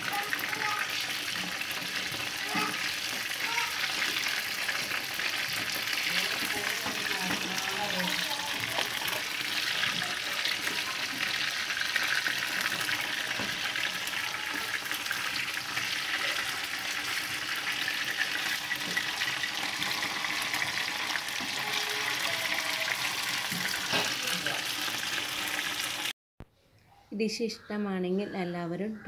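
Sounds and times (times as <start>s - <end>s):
chicken deep-frying in oil: 0.0s - 26.1s.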